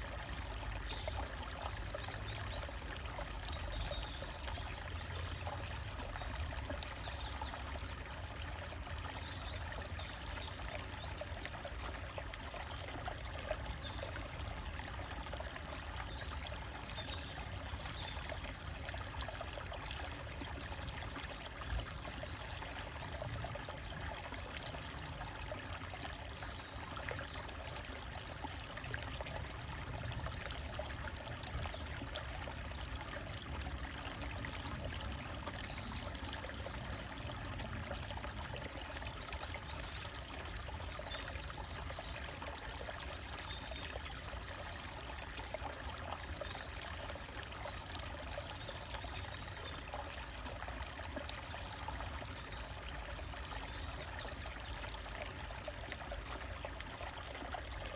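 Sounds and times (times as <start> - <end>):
stream trickling over rocks: 0.0 - 57.9.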